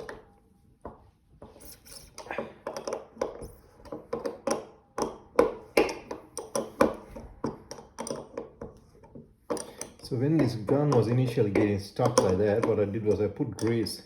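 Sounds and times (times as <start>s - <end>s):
metallic clicks and taps of tool: 2.2s - 14.0s.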